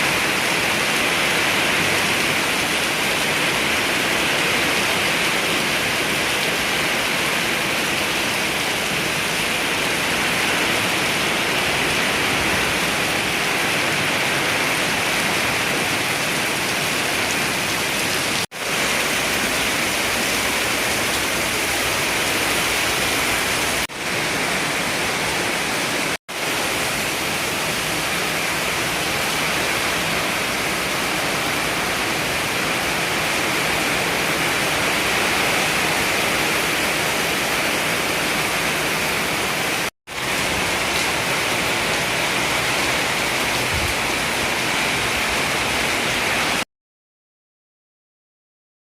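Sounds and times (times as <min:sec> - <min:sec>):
heavy rain pouring: 0:00.0 - 0:46.7.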